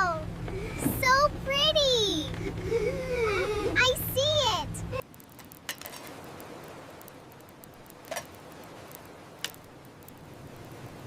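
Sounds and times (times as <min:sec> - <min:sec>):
light rain hiss: 0:00.0 - 0:11.0.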